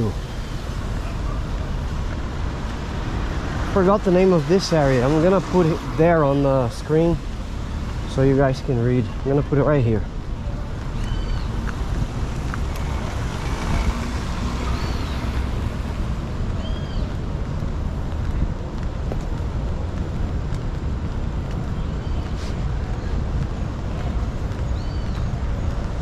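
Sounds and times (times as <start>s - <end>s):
traffic on wet road: 0.0s - 26.0s.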